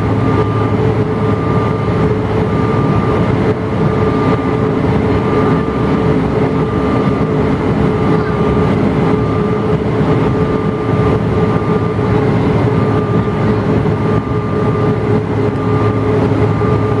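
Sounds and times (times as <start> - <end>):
jet engines droning: 0.0 - 17.0
steady hums: 0.0 - 17.0.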